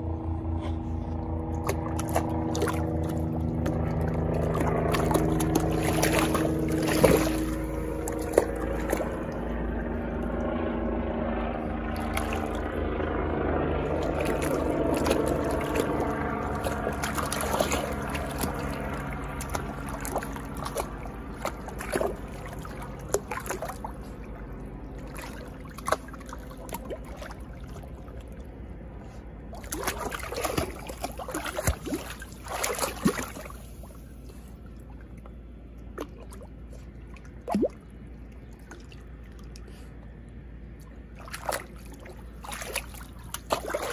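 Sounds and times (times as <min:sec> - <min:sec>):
motor hum: 0:00.0 - 0:43.9
water sloshing and splashing: 0:01.3 - 0:10.7, 0:11.3 - 0:43.9.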